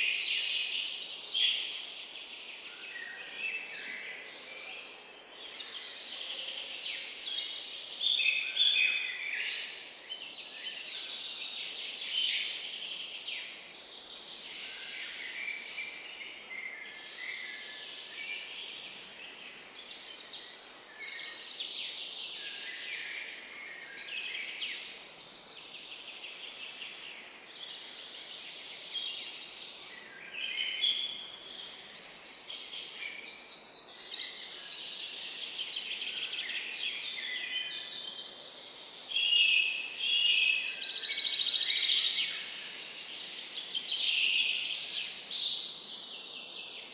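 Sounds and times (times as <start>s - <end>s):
small birds chirping and trilling: 0.0s - 38.3s, 38.9s - 46.9s.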